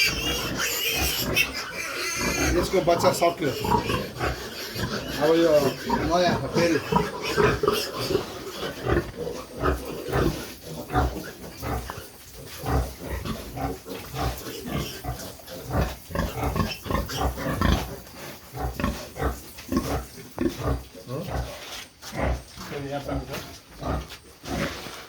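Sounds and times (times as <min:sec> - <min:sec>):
pigs grunting: 0:00.0 - 0:25.0.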